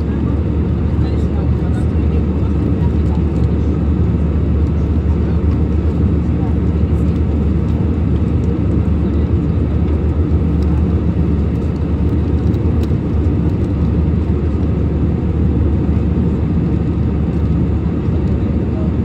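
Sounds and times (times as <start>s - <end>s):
airliner cabin engine drone: 0.0s - 19.0s.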